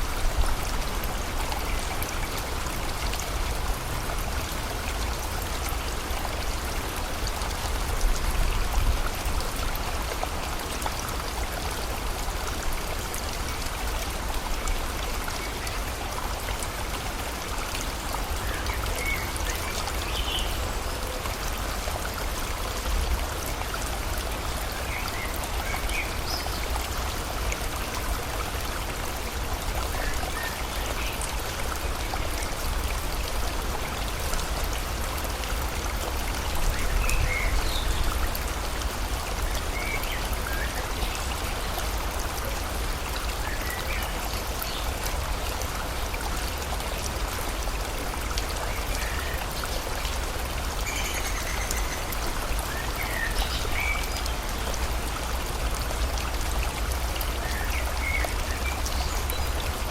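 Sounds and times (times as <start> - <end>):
flowing river water: 0.0 - 59.9
steady rain: 0.0 - 59.9.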